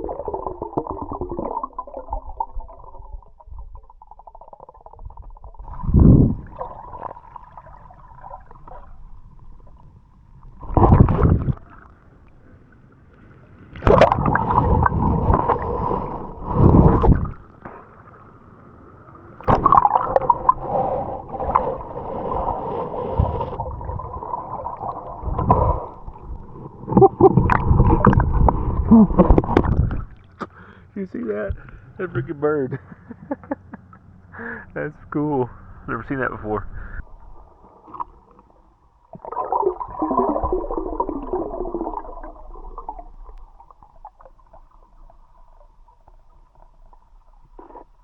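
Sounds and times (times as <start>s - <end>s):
faint steady hum: 0.0s - 48.0s
water gurgling and sloshing: 0.0s - 48.0s.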